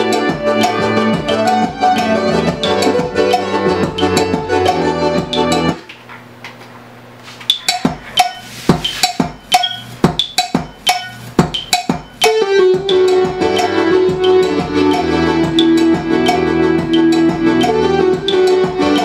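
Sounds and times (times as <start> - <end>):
sharp percussion hits: 0.0 - 5.8, 7.5 - 19.0
keyboard instrumental music: 0.0 - 5.9, 7.5 - 19.0.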